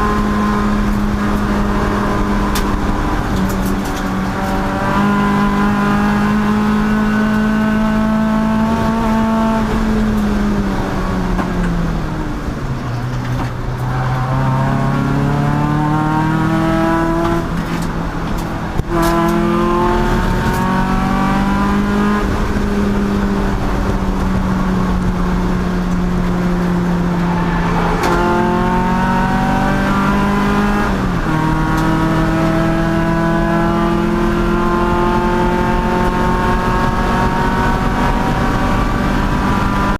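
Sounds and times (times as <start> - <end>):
gear changes: 0.0 - 39.9
race car engine running hard: 0.0 - 39.9.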